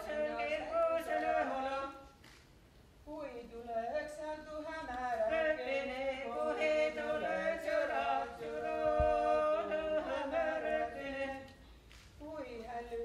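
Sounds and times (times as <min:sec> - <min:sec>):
man and woman singing in harmony: 0:00.0 - 0:02.4, 0:03.0 - 0:13.0.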